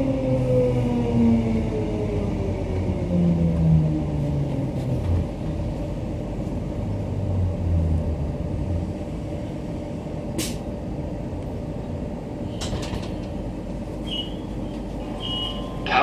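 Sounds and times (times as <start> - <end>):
train wheels rumbling: 1.4 - 16.0.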